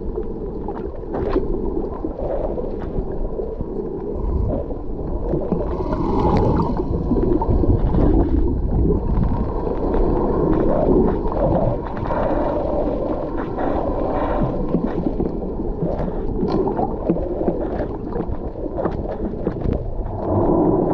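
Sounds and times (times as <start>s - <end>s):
underwater rushing and gurgling: 0.0s - 20.9s.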